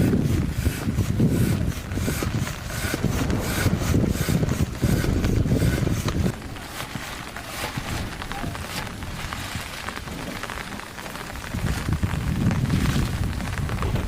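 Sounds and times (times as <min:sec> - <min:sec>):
rain hissing: 0:00.0 - 0:14.0
wind buffeting microphone: 0:00.0 - 0:14.0.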